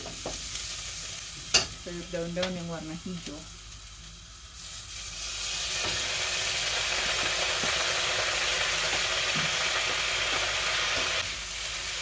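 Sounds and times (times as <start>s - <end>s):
leaves sizzling in hot oil: 0.0s - 12.0s.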